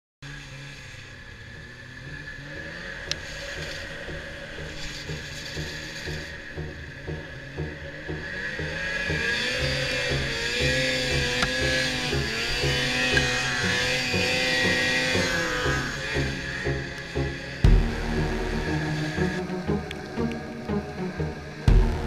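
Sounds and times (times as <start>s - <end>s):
electronic rock music: 3.2s - 22.0s.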